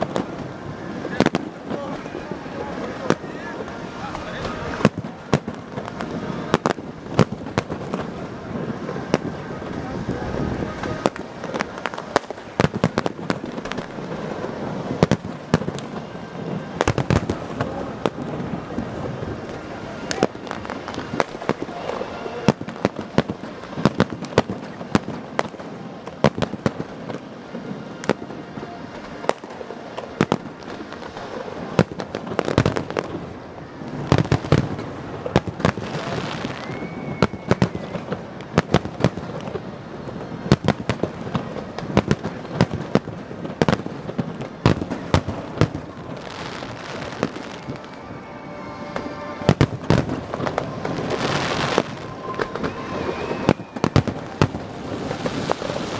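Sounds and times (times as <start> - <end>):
firework whistle: 0.0 - 44.1, 44.7 - 55.9
fireworks booms: 0.0 - 55.9
fireworks crackling and popping: 0.0 - 55.9.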